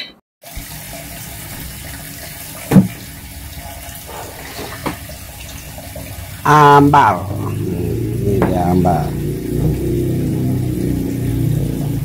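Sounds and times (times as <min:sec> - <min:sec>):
water running from tap: 0:00.4 - 0:12.0.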